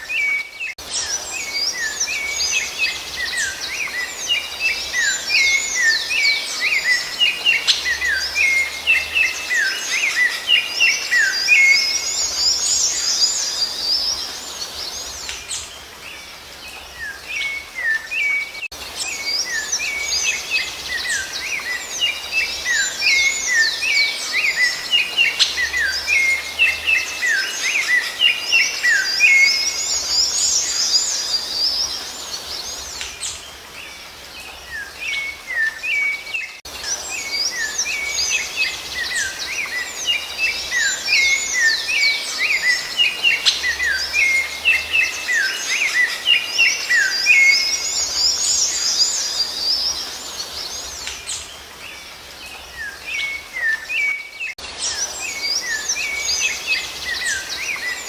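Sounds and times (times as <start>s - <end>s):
thrush singing whistled notes: 0.0s - 58.0s.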